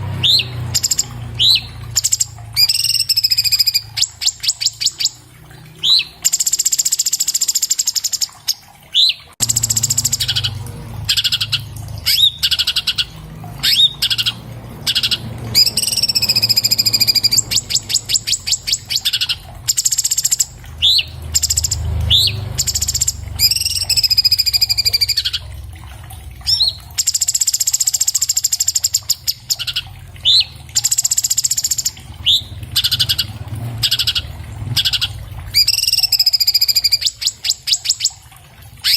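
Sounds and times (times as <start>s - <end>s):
bird singing trills and whistles: 0.0s - 5.2s, 5.8s - 25.5s, 26.4s - 38.2s.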